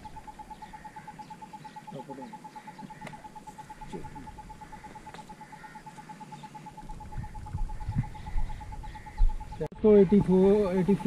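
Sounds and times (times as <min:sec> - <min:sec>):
faint bird chirps: 0:00.0 - 0:11.0
rapid pulsing tone: 0:00.0 - 0:11.0.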